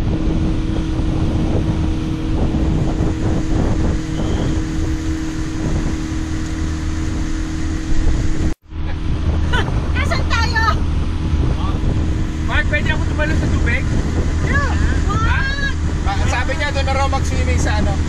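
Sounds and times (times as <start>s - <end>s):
outboard motor humming: 0.0s - 18.0s
wind buffeting microphone: 0.0s - 18.0s.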